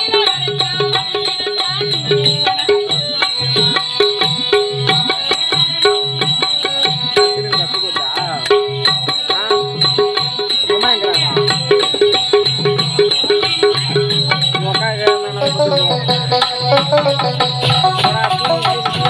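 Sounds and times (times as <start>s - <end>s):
tabla drums: 0.0s - 19.0s.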